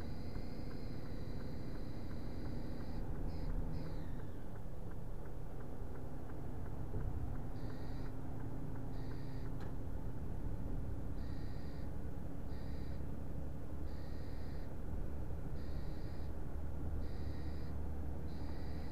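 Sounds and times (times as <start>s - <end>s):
car road and engine noise: 0.0s - 18.9s.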